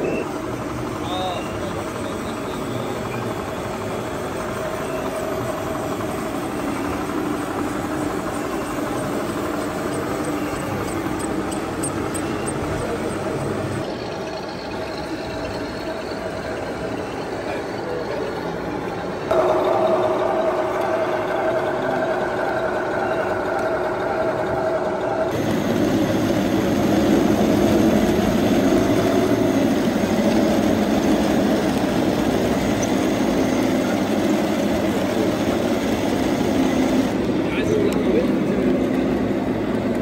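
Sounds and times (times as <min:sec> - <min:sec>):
tank engine sound idling: 0:00.0 - 0:40.0.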